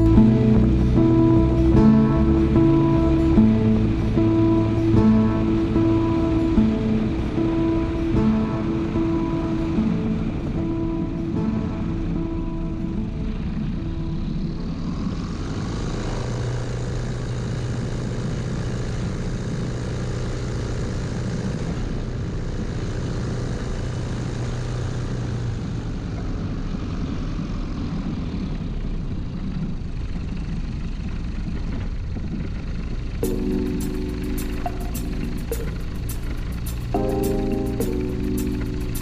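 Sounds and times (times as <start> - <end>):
light aircraft engine droning: 0.0 - 39.0.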